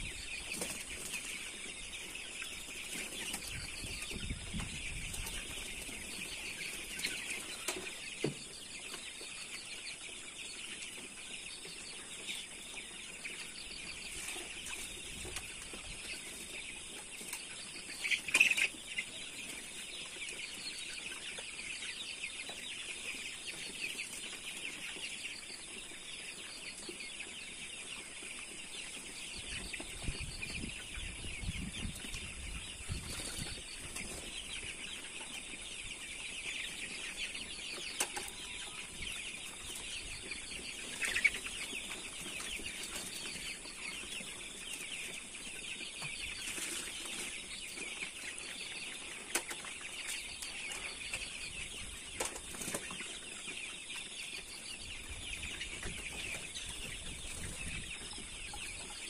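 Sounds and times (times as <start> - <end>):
chickens peeping and clucking: 0.0 - 59.0.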